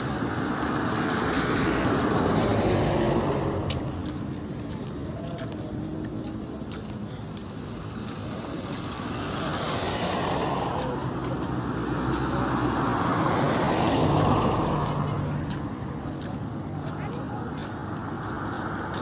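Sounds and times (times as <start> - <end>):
vehicles passing close: 0.0 - 19.0.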